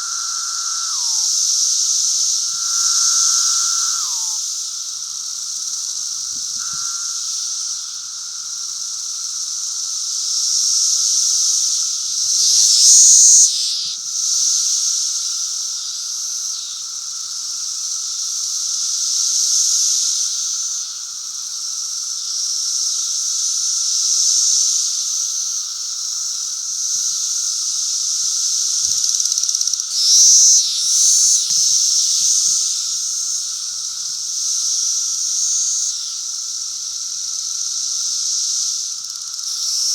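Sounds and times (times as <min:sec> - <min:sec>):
cicada chorus hissing: 0:00.0 - 0:39.9.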